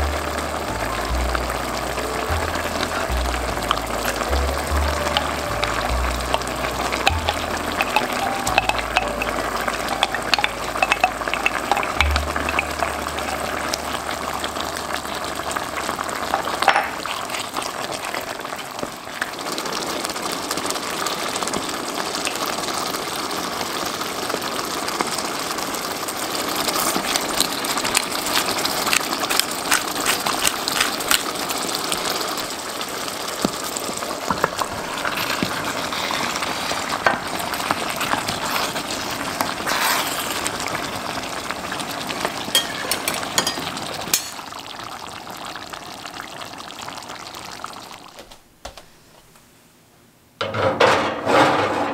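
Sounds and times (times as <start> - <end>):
sauce simmering in a pot: 0.0 - 48.2.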